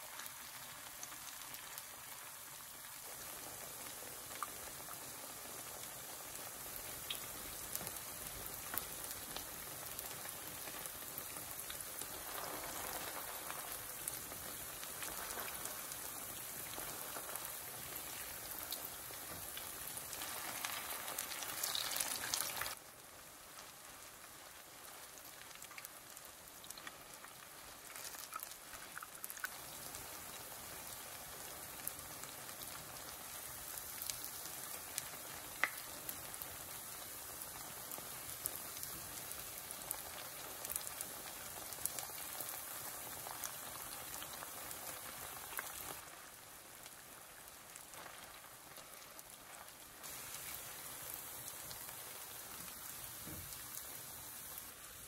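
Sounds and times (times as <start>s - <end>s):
pancakes sizzling in oil: 0.0s - 55.0s.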